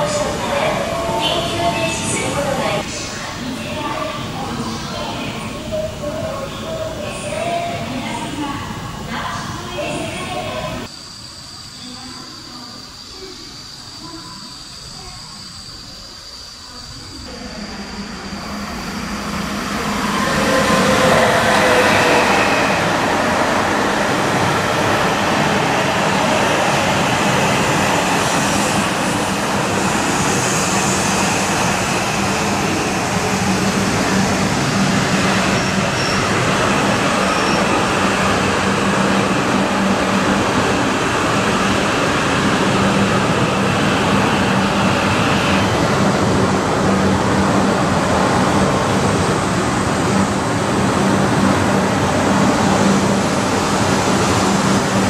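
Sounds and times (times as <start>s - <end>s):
bullet train rumbling past: 0.0s - 55.0s.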